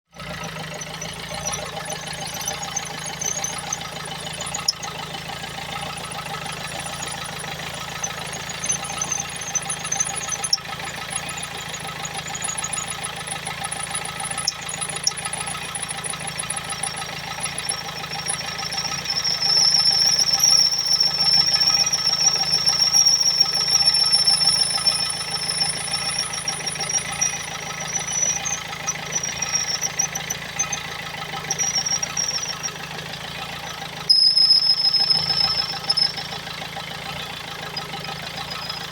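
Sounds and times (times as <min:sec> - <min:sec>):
engine idling: 0:00.1 - 0:38.9
high-pitched engine whistle: 0:00.1 - 0:38.9.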